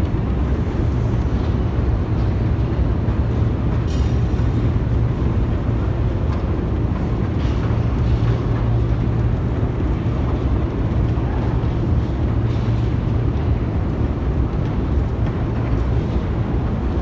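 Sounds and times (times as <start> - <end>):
escalator rumble and hum: 0.0 - 17.0.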